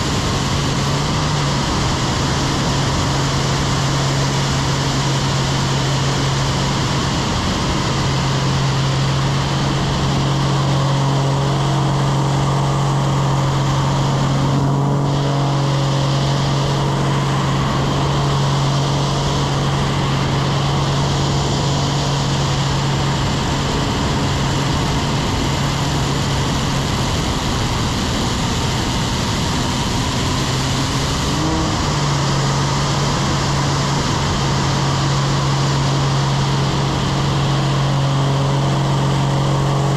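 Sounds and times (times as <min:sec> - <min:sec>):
air rushing over wing: 0:00.0 - 0:39.9
airplane engine and propeller drone: 0:00.0 - 0:39.9.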